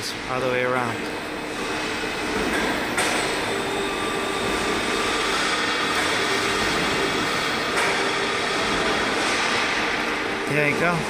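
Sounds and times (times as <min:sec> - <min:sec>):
crane motor whine and rumble: 0:00.0 - 0:11.0.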